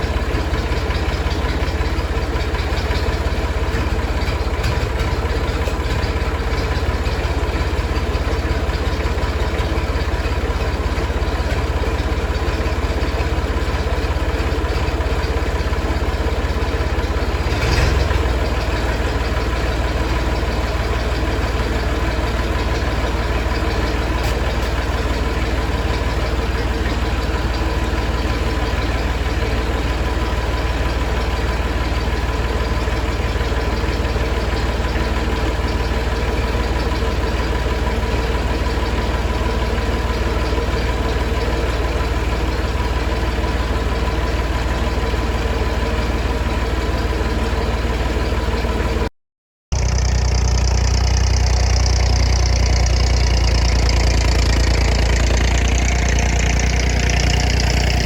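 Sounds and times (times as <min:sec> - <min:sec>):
diesel tractor engine idling: 0:00.0 - 0:49.1, 0:49.7 - 0:58.0.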